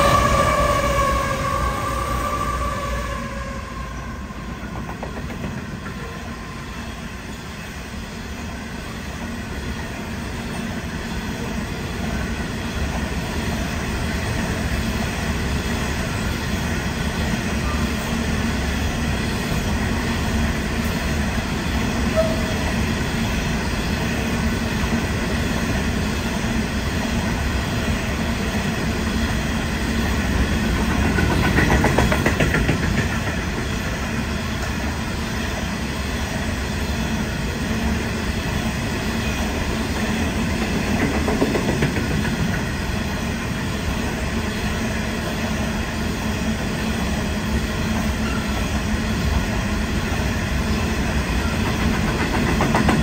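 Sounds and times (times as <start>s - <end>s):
freight train rumbling past: 0.0s - 53.0s
wheels clickety-clack over rail joints: 4.4s - 53.0s.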